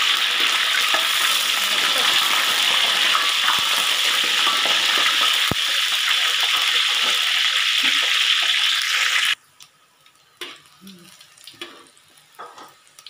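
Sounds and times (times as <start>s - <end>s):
eggplant sizzling in wok: 0.0s - 13.0s.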